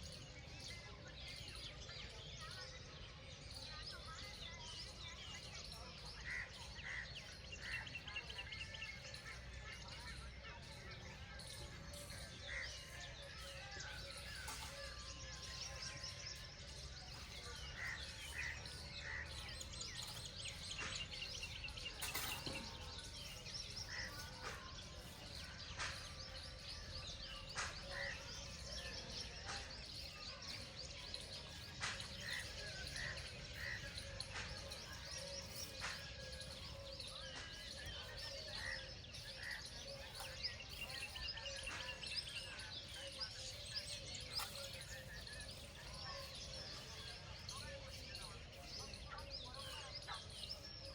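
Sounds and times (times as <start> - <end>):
birds chirping and calling: 0.0 - 50.9.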